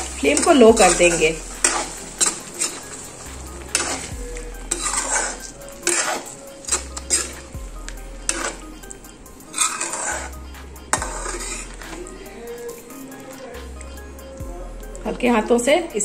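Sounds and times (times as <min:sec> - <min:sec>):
metal spoon scraping a pan: 0:00.0 - 0:14.4.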